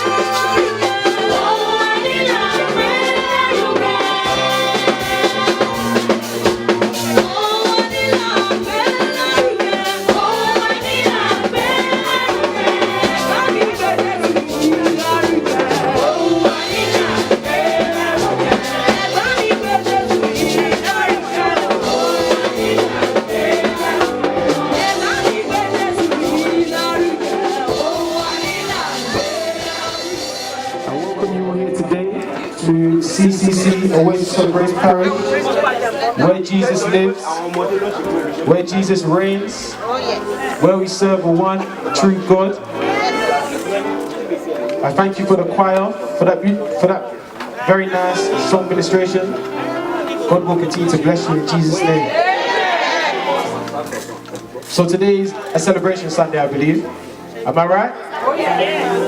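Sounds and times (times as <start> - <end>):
drum kit steady beat: 0.0 - 37.2, 37.8 - 57.2
choir singing gospel: 0.0 - 59.0.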